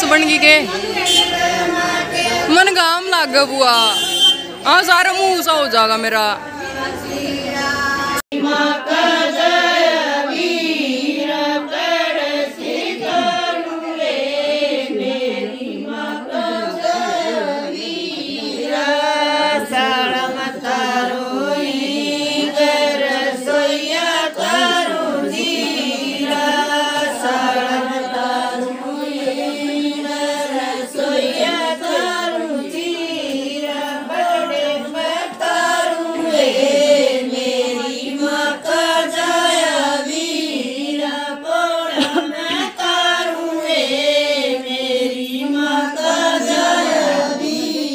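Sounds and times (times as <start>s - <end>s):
women singing together: 0.0s - 3.8s, 4.7s - 47.9s.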